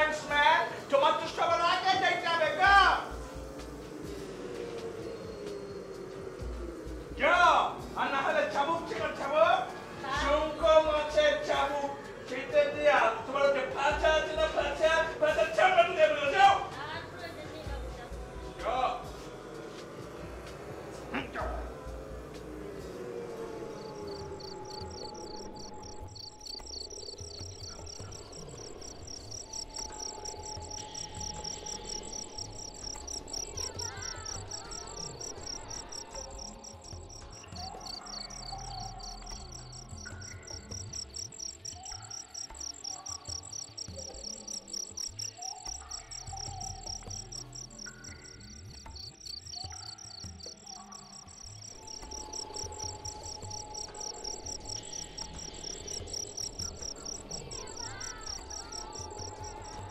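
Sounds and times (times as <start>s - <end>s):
crickets trilling: 0.0s - 17.0s, 17.7s - 59.9s.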